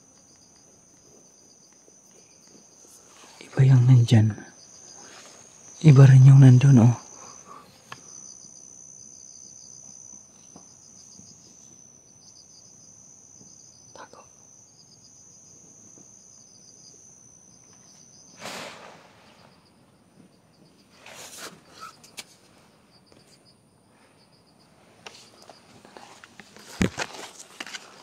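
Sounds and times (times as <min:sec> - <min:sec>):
insects chirping: 0:00.0 - 0:28.0.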